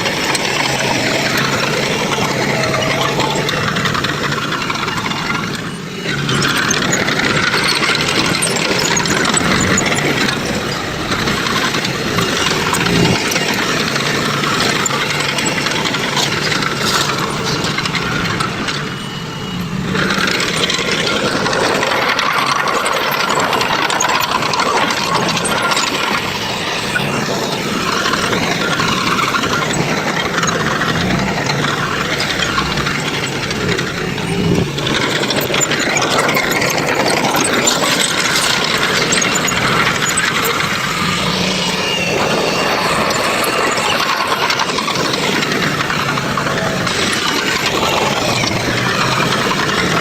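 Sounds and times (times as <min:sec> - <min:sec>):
diesel machinery engine rattling: 0:00.0 - 0:50.0.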